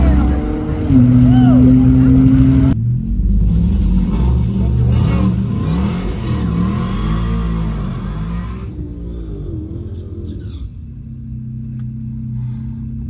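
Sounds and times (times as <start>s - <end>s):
car engine revving: 0.0s - 11.5s.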